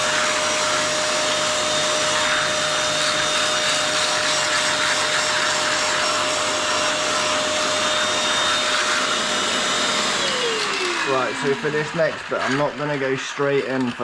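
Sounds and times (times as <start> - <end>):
carpet cleaning machine running: 0.0 - 14.0.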